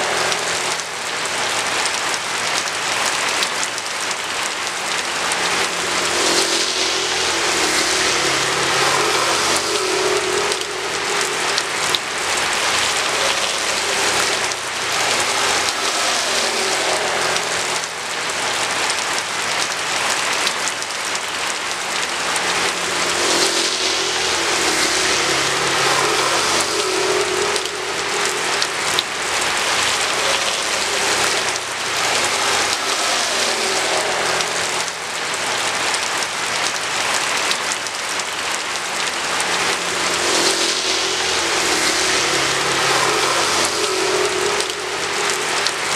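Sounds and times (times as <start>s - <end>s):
rain pattering on hard surfaces: 0.0s - 45.9s
road traffic hum: 0.0s - 45.9s.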